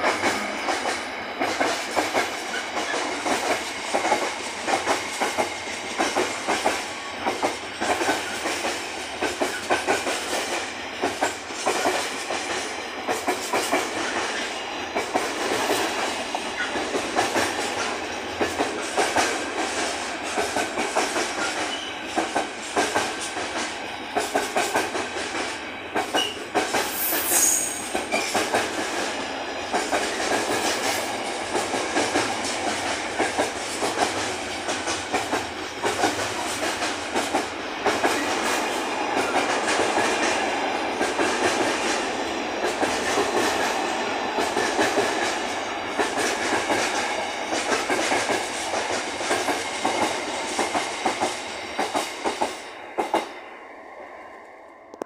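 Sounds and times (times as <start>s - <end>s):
freight train wheels clattering: 0.0s - 53.4s.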